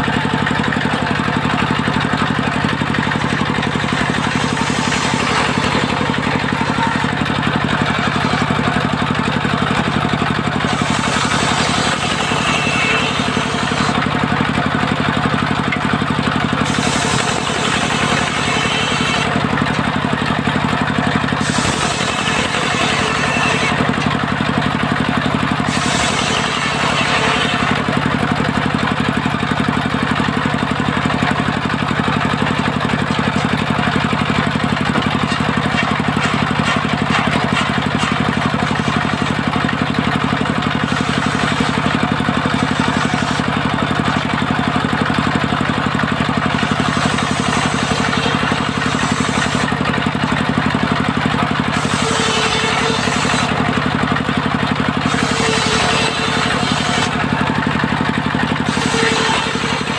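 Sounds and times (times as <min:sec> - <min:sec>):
circular saw cutting wood: 0:00.0 - 0:59.9
saw motor running: 0:00.0 - 0:59.9.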